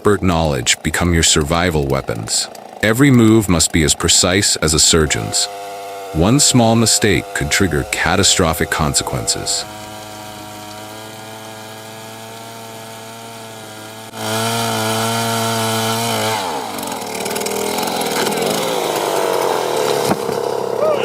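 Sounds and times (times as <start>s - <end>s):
power saw engine cutting wood: 0.0s - 21.0s.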